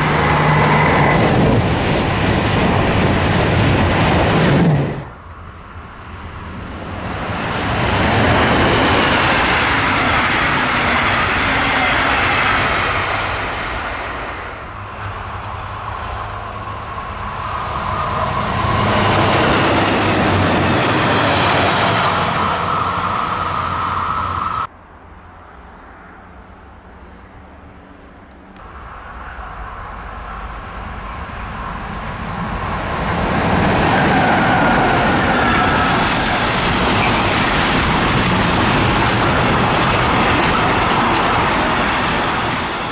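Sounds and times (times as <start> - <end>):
freight train rumbling past: 0.0 - 42.9
rail vehicle passing: 0.0 - 42.9.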